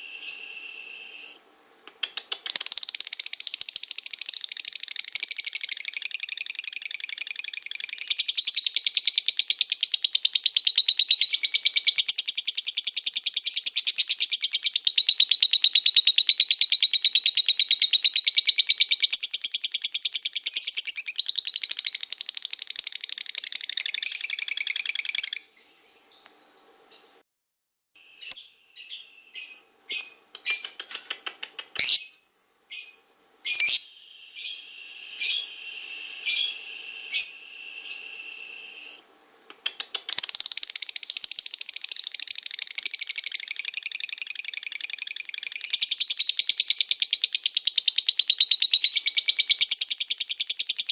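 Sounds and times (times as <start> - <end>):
sharp bird calls: 0.0 - 27.1, 28.0 - 50.9
songbird chattering trill: 1.2 - 25.4, 28.2 - 39.0, 39.6 - 50.9.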